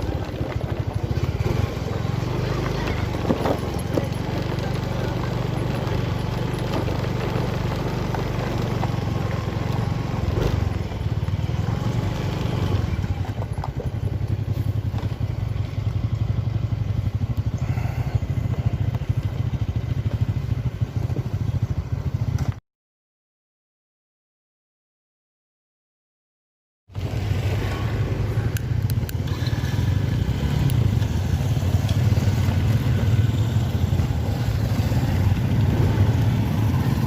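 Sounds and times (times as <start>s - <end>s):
vehicle engine running: 0.0s - 22.6s, 27.0s - 37.0s.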